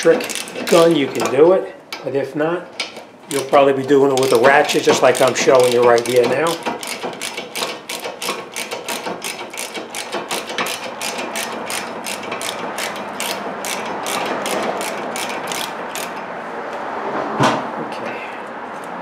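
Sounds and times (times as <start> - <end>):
hand ratchet clicking: 0.0 - 2.1, 2.8 - 16.2.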